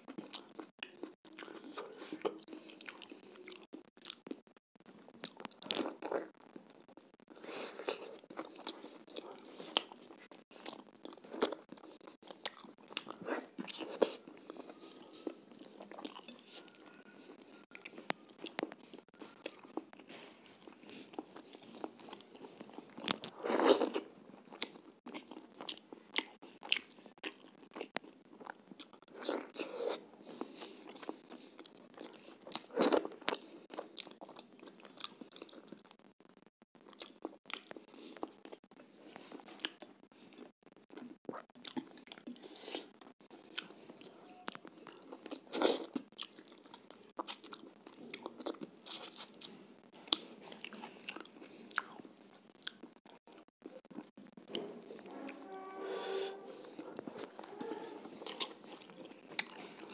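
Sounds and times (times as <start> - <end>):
person chewing and biting food: 0.1 - 36.0, 36.8 - 55.3, 56.6 - 59.9.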